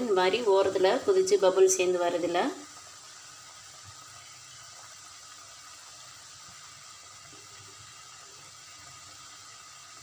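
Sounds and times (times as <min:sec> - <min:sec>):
soup bubbling in a pan: 0:00.0 - 0:10.0.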